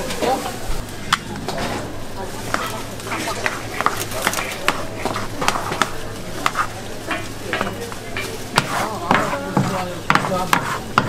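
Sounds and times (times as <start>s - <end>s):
steady low hum: 0.0s - 11.0s
ladles scraping steel pan: 0.3s - 11.0s.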